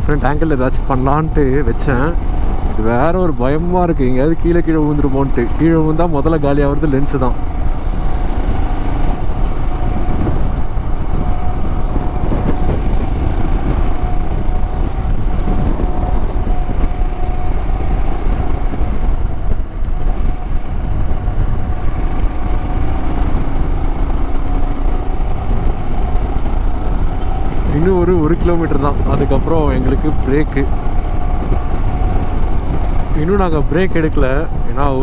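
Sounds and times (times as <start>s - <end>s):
motorcycle engine droning: 0.0s - 35.0s
wind noise on microphone: 0.0s - 35.0s.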